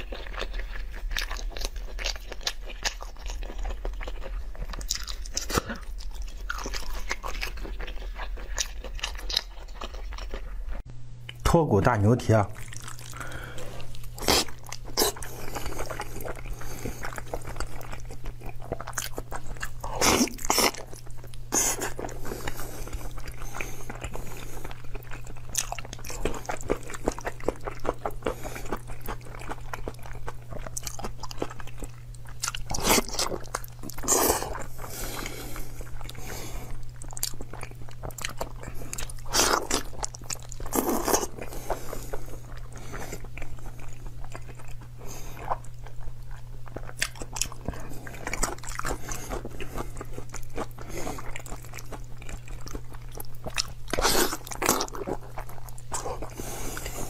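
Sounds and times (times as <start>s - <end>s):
close biting and chewing: 0.0s - 10.8s, 12.6s - 57.0s
steady low hum: 0.0s - 57.0s.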